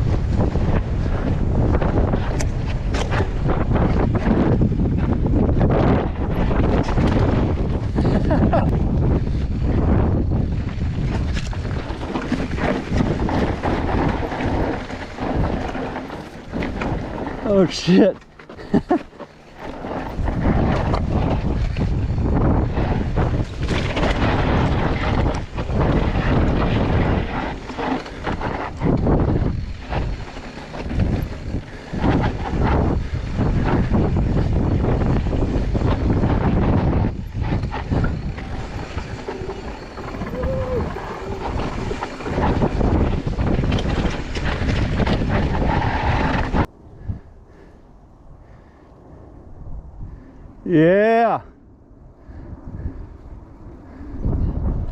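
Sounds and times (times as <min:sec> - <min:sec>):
bike tyres rattling over dirt: 0:00.0 - 0:47.7
wind rushing over microphone: 0:00.0 - 0:54.9.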